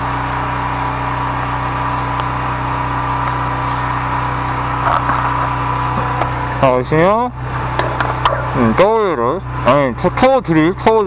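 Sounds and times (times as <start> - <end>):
engine droning with whine: 0.0 - 11.0.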